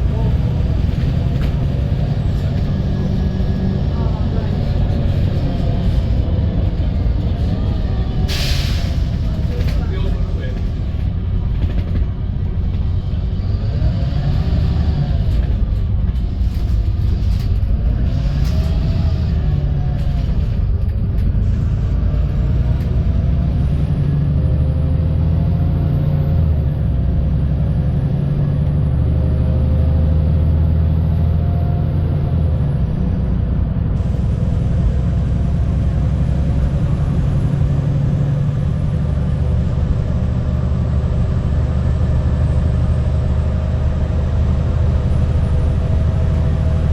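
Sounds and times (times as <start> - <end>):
bus diesel engine: 0.0 - 46.9
road rumble: 0.0 - 46.9.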